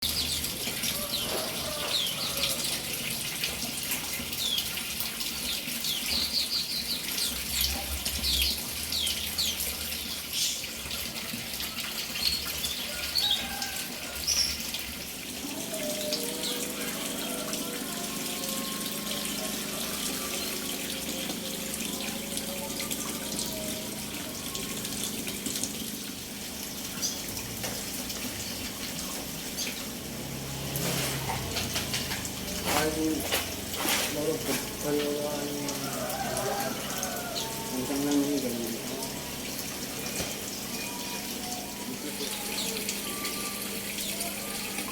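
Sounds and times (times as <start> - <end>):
water pouring and splashing: 0.0 - 44.9.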